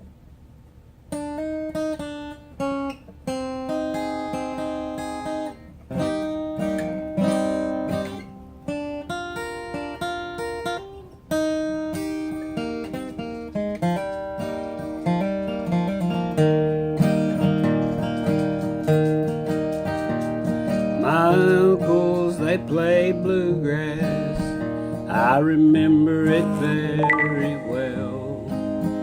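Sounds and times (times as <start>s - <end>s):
acoustic guitar strumming chords: 1.2s - 29.0s.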